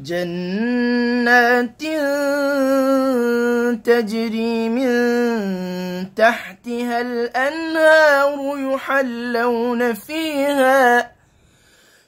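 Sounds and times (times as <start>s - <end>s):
man reciting melodically: 0.0s - 11.2s.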